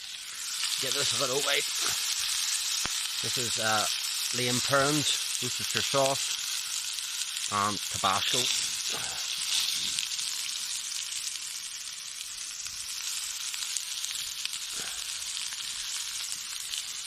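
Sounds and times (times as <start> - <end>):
steak sizzling: 0.0 - 17.0.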